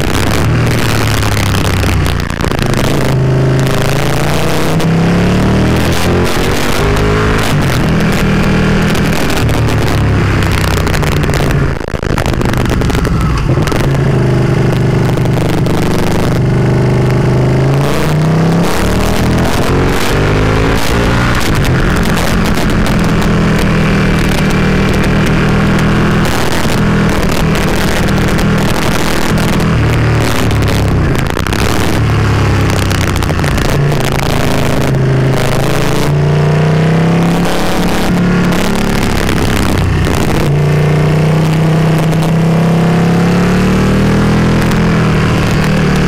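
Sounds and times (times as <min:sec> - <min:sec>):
heavy wind rush: 0:00.0 - 0:42.5
motorcycle engine under load: 0:00.0 - 0:46.0.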